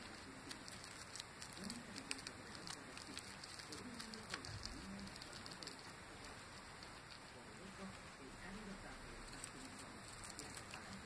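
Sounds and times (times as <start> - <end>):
guinea pig chewing leaves: 0.0 - 11.0.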